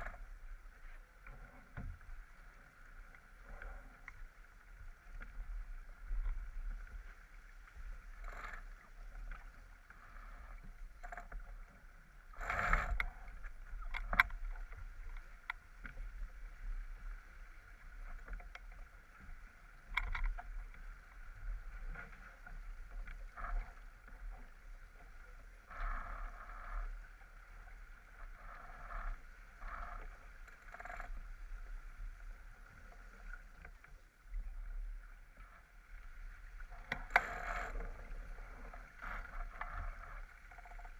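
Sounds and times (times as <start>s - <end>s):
water rushing along hull: 0.0s - 40.9s.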